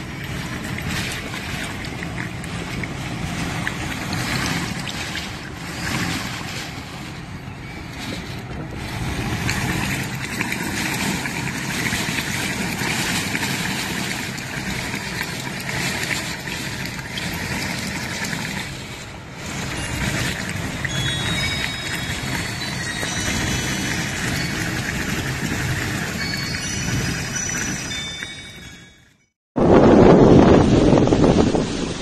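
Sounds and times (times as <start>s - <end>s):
strong gusting wind: 0.0s - 28.2s, 29.6s - 32.0s
driving rain: 0.0s - 28.4s.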